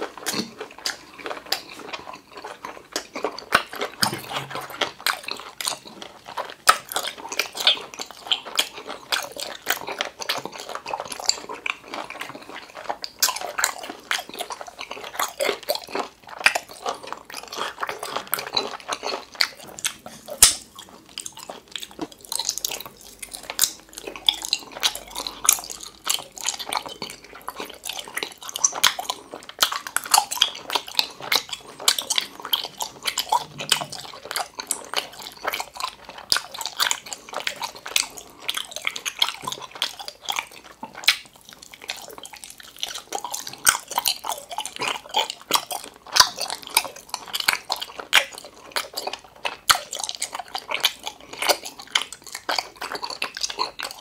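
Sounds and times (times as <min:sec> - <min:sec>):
chewing gummy candy: 0:00.0 - 0:54.0
wet mouth clicks: 0:03.2 - 0:05.9, 0:13.2 - 0:54.0.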